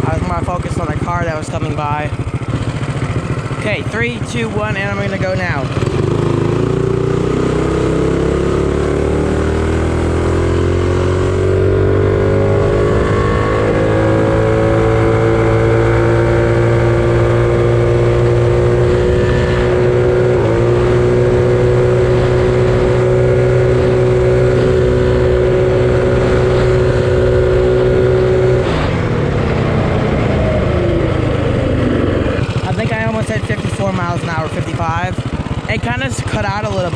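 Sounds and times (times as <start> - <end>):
small engine at full throttle: 0.0 - 36.9.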